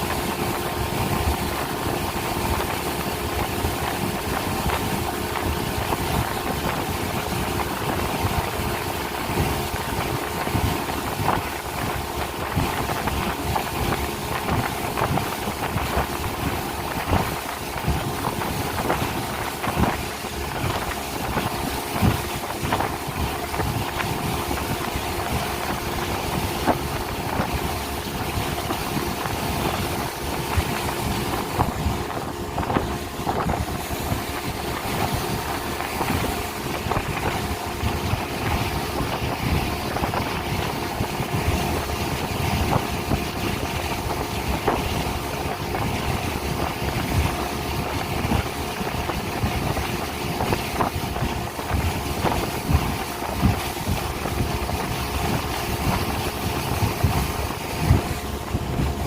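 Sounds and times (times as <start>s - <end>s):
speedboat engine running: 0.0s - 59.0s
wind on microphone: 0.0s - 59.0s.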